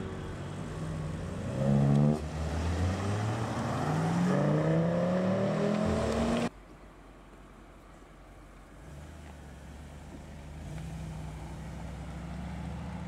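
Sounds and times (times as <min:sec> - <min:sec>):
car engine accelerating: 0:00.0 - 0:06.5, 0:08.7 - 0:13.0.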